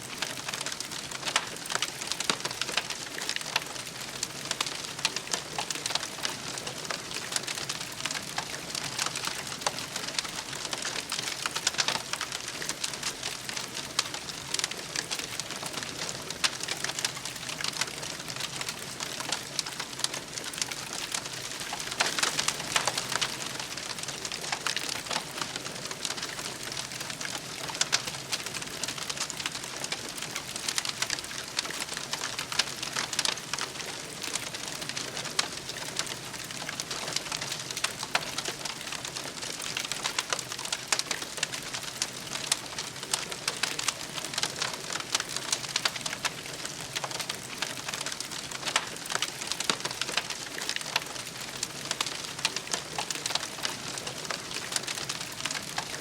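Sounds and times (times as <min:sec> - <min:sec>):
campfire crackling: 0:00.0 - 0:56.0
soft fire hiss: 0:00.0 - 0:56.0.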